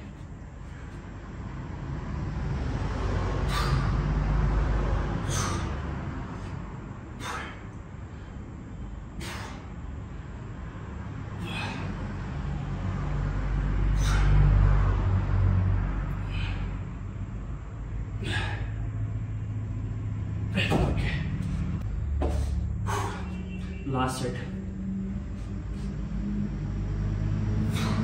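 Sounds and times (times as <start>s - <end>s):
sharp forceful breaths: 0.0s - 23.8s, 24.5s - 28.0s.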